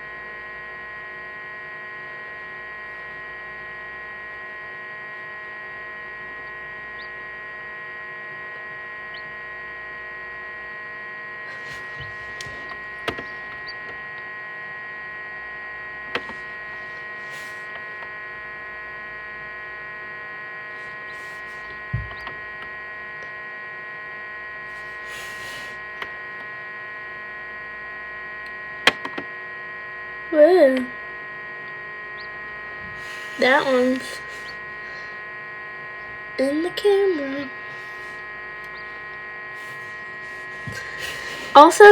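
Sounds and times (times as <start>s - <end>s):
incubator electric hum: 0.0s - 41.9s.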